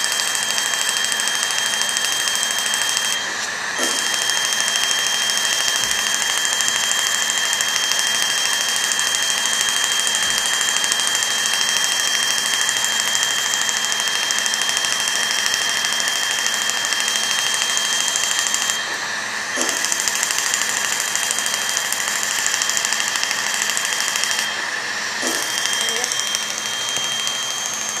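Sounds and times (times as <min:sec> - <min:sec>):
steady high tone: 0:00.8 - 0:28.0.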